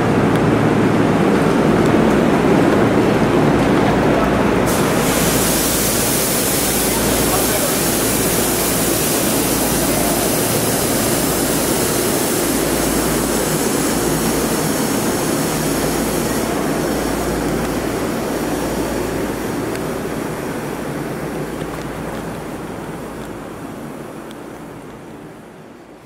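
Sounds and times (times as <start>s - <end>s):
train rumbling: 0.0s - 25.9s.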